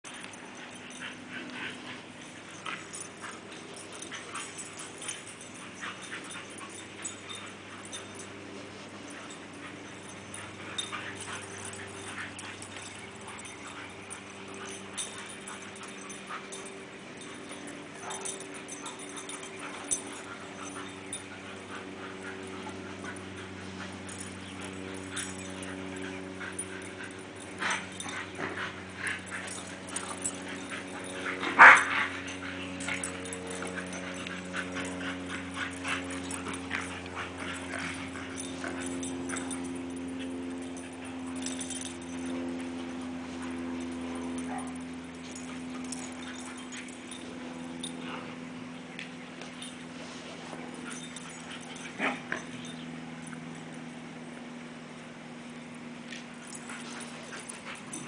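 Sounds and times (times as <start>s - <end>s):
steady low hum: 0.0s - 58.0s
dogs whining and yipping: 0.1s - 58.0s.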